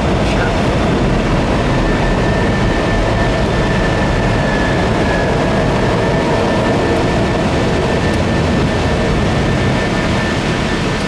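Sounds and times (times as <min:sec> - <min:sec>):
airflow and engine rushing: 0:00.0 - 0:11.0.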